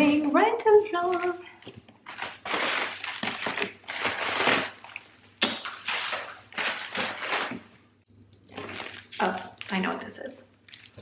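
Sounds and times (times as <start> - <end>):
plastic packing material crinkling: 1.0 - 11.0.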